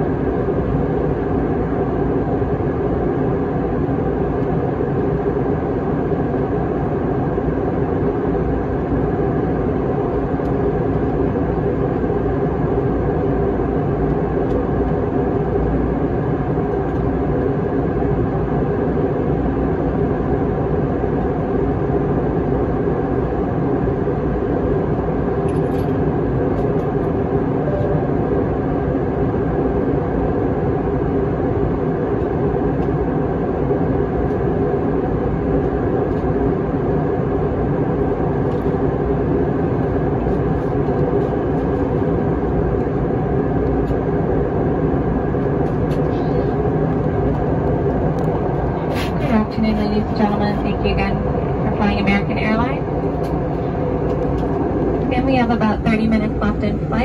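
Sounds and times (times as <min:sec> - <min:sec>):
even hum: 0:00.0 - 0:57.0
jet engine cabin drone: 0:00.0 - 0:57.0.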